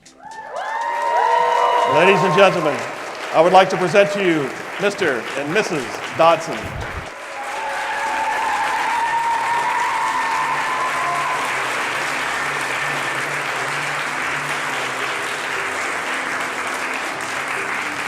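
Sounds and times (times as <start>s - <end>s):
guests applauding: 0.0s - 18.0s
high cheer: 0.1s - 18.0s.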